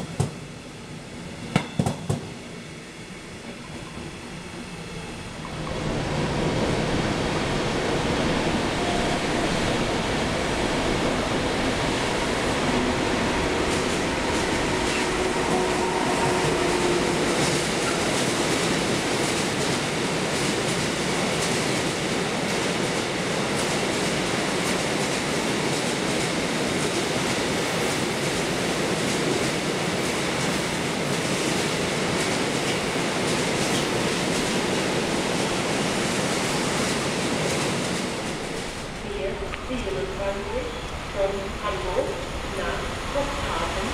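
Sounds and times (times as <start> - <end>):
train rumbling on tracks: 0.0 - 43.9.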